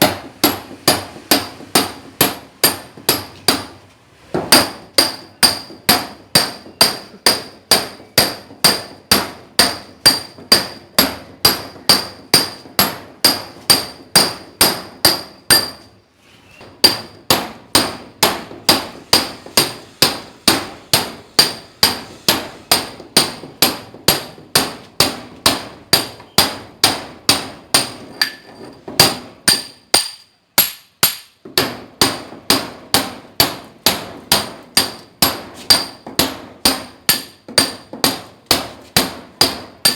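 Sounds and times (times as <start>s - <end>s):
hammer striking steel chisel: 0.0s - 3.8s, 4.4s - 16.0s, 16.6s - 39.9s.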